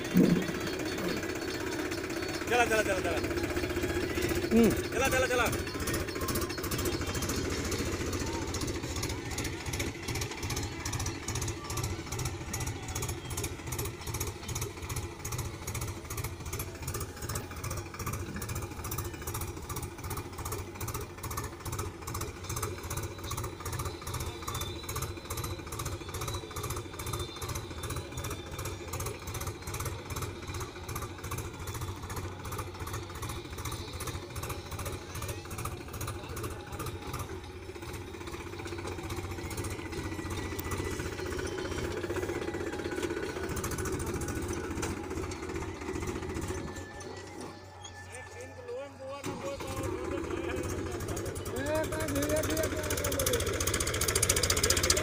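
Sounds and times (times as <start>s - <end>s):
tractor diesel engine pulsing: 0.0s - 55.0s.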